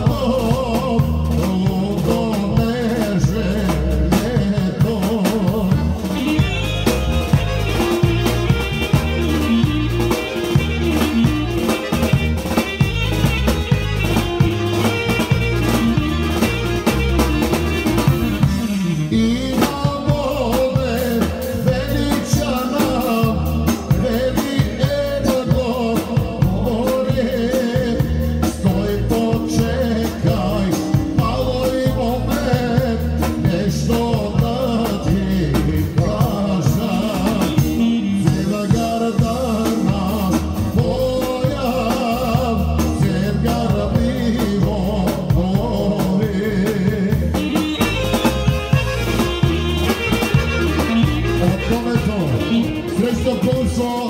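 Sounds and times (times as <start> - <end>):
live folk band music: 0.0 - 54.0
person singing: 0.0 - 54.0
steady drum beat: 0.0 - 54.0.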